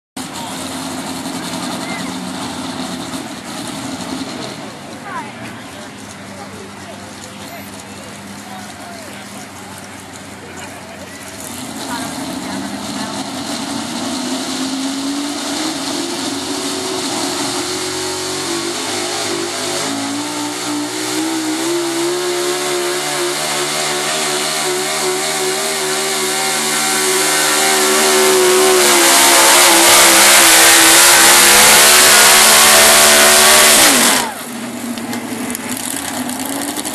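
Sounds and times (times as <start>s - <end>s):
truck engine revving under load: 0.2s - 36.9s.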